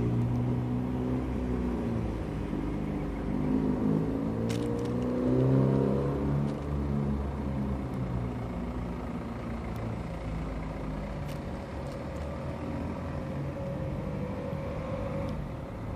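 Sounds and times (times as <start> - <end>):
traffic drone: 0.0 - 15.9
vehicle engine humming: 0.0 - 15.9.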